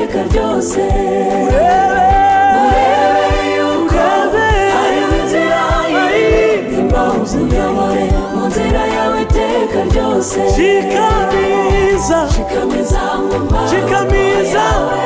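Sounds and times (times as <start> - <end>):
choir singing: 0.0 - 15.0
lead singer singing: 0.0 - 15.0.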